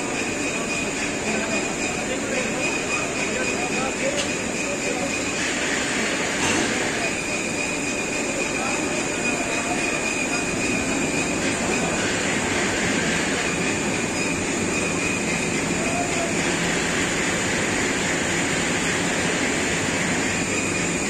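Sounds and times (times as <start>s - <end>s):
machinery running: 0.0s - 21.0s.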